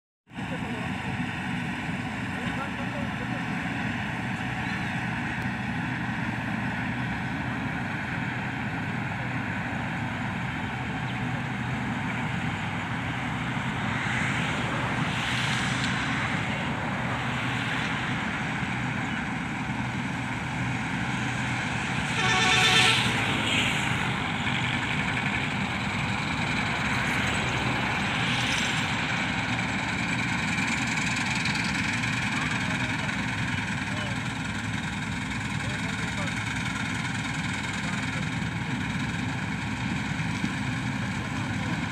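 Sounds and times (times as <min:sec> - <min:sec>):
combine harvester machinery drone: 0:00.3 - 0:41.9.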